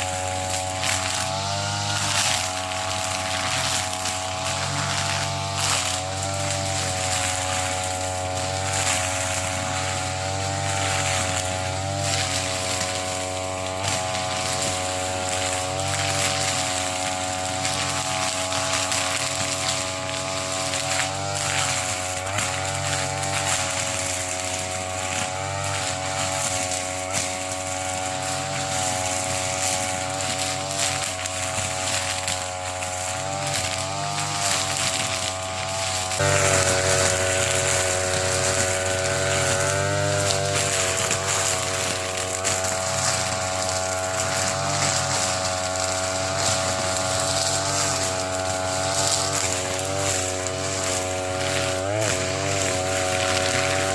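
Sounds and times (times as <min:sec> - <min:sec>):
brush cutter engine cutting grass: 0:00.0 - 0:53.9.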